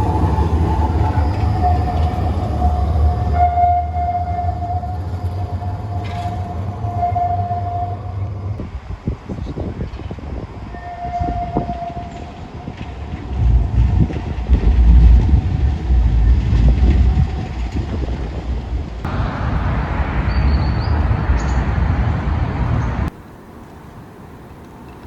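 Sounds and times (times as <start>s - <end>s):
tram rumbling past: 0.0s - 25.0s.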